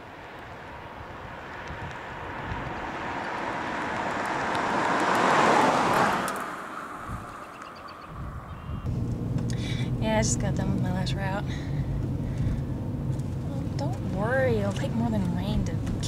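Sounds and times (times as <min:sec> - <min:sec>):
car driving past: 0:00.2 - 0:14.7.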